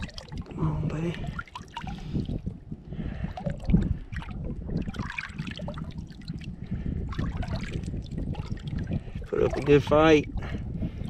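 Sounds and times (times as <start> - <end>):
water splashing against boat: 0.0 - 11.0
wind buffeting microphone: 0.0 - 11.0.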